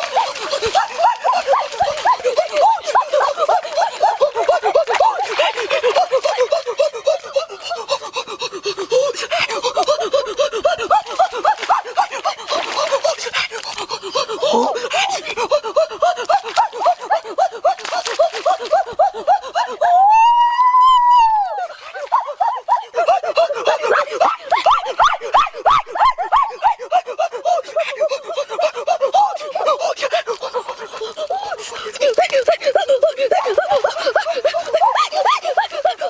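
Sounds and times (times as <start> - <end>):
person laughing and panting: 0.0 - 20.2, 21.4 - 36.0.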